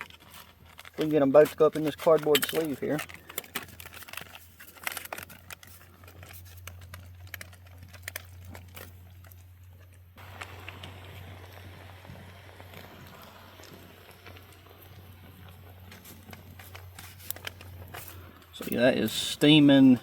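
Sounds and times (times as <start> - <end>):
food pouches crinkling and rustling: 0.0 - 20.0.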